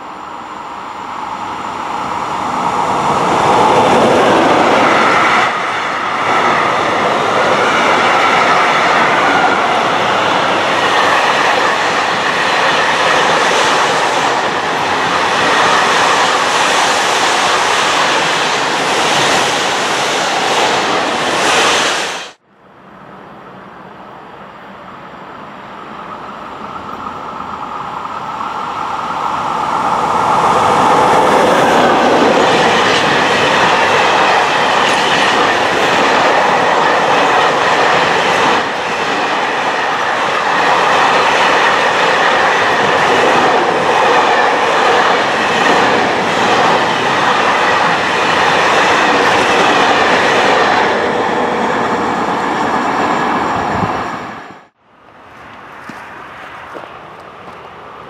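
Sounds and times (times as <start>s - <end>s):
train wheels rushing on rails: 0.0s - 58.0s.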